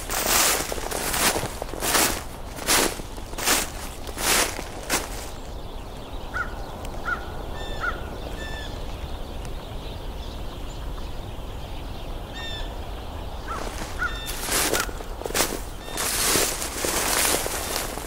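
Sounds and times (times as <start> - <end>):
small birds chirping: 0.0 - 18.0
steady background noise: 0.0 - 18.0.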